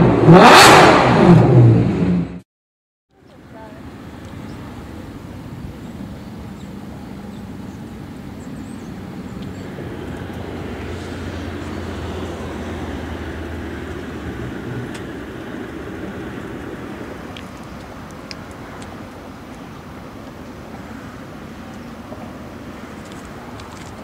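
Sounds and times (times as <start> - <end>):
car engine idling: 3.1 - 24.0.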